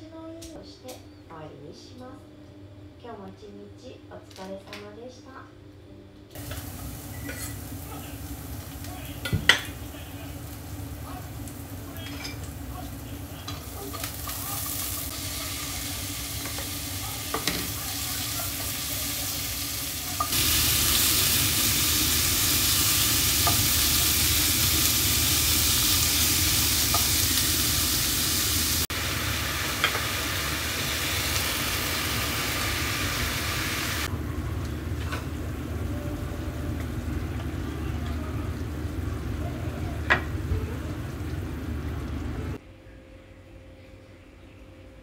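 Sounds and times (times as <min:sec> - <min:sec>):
food sizzling in a frying pan: 0:06.4 - 0:42.6.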